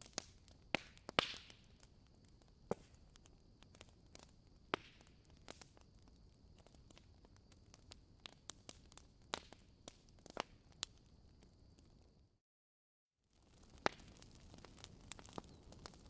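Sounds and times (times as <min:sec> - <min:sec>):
wood fire crackling and popping: 0:00.0 - 0:12.2, 0:13.4 - 0:16.0.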